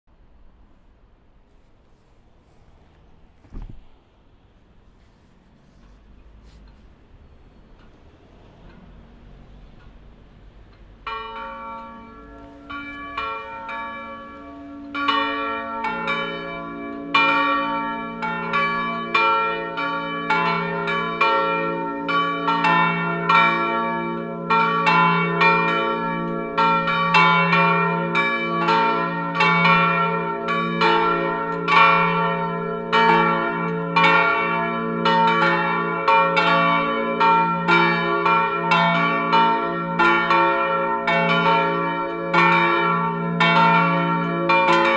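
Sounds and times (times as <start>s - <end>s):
church bells pealing: 8.2s - 44.9s.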